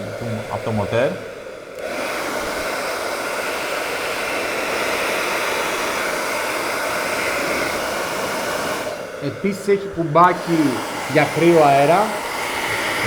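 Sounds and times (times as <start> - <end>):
hair dryer blowing air: 0.0 - 13.0.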